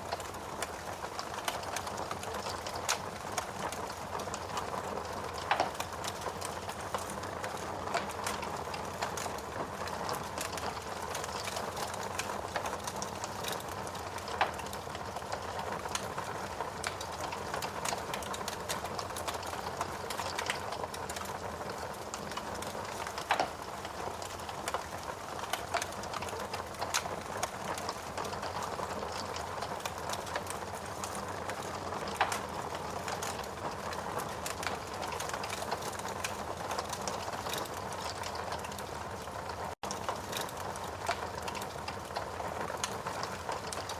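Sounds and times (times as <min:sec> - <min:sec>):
steady rain hiss: 0:00.0 - 0:43.9
wood fire crackling: 0:00.0 - 0:43.9.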